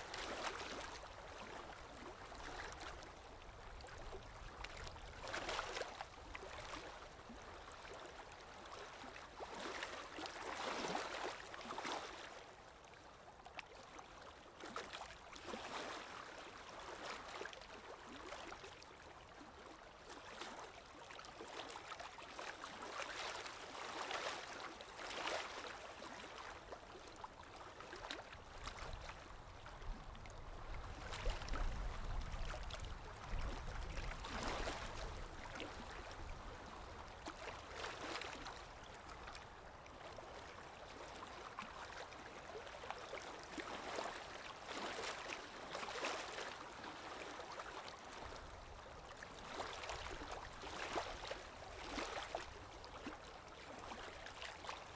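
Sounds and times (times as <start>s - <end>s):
stream gurgling and splashing: 0.0s - 12.5s, 21.4s - 54.9s.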